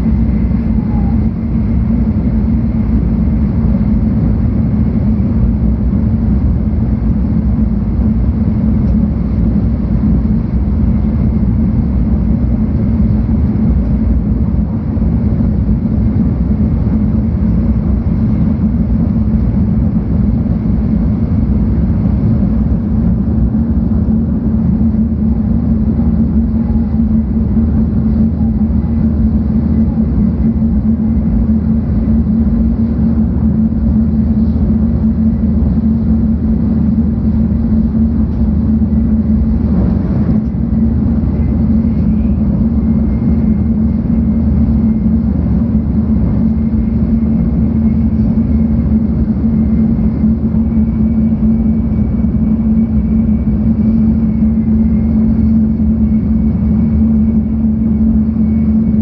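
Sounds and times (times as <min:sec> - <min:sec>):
train rumbling inside cabin: 0:00.0 - 0:59.0.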